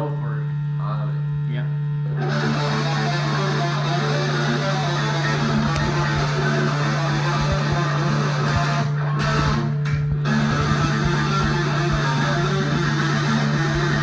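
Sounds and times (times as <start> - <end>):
amplifier hum: 0.0 - 14.0
electric guitar solo: 2.1 - 14.0.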